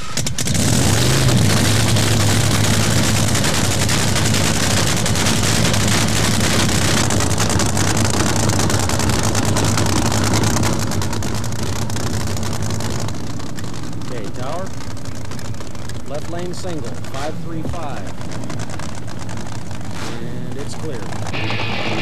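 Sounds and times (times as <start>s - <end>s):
boat engine running loudly: 0.0s - 22.0s.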